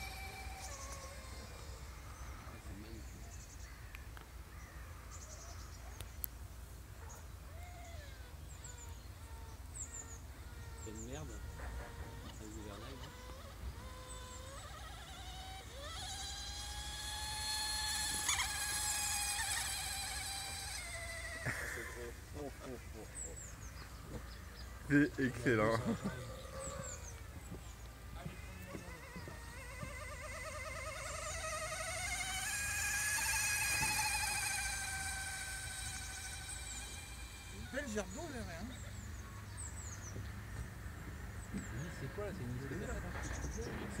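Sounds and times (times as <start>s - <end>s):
model boat motor whining: 0.0s - 44.0s.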